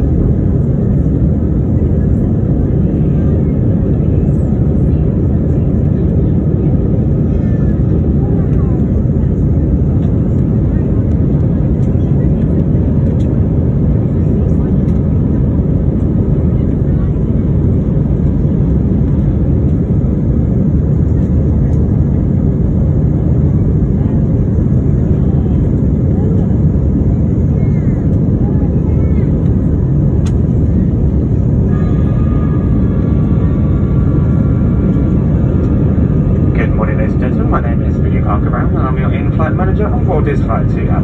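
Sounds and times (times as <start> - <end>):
jet engine rumble in cabin: 0.0 - 41.0.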